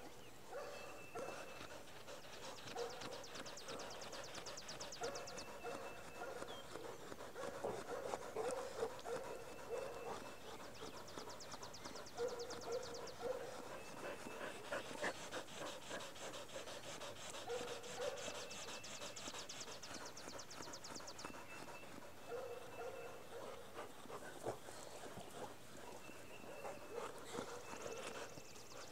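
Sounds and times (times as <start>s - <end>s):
dogs panting: 0.0s - 28.9s
dogs whining: 0.6s - 28.9s.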